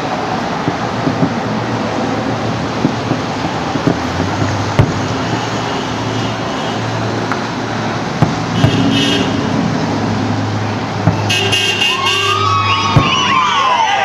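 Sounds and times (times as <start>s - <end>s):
street low hum: 0.0s - 14.0s
firework bangs: 0.3s - 7.4s, 8.1s - 9.5s, 10.9s - 13.8s.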